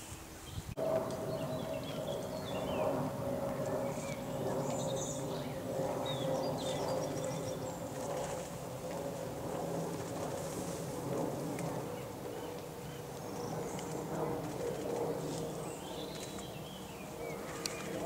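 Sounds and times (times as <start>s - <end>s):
songbirds chirping: 0.0s - 8.5s, 11.5s - 18.0s
steady drone: 0.8s - 18.0s.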